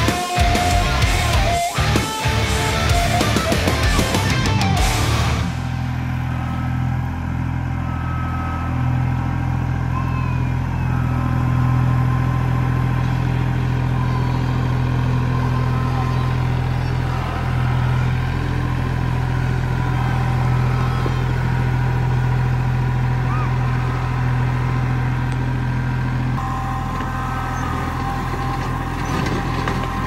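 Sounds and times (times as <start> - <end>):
engine droning: 0.0 - 30.0.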